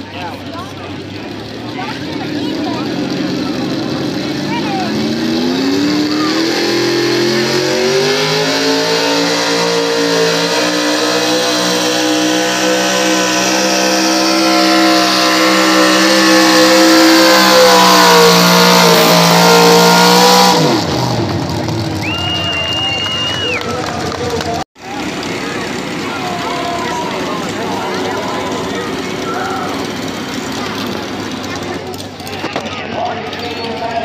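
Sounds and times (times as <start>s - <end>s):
truck engine revving under load: 0.0s - 32.3s.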